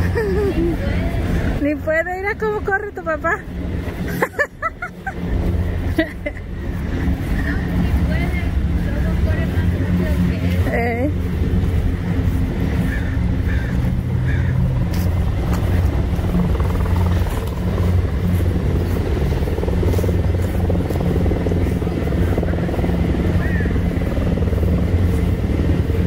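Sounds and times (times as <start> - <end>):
helicopter rotors droning: 0.0 - 26.0.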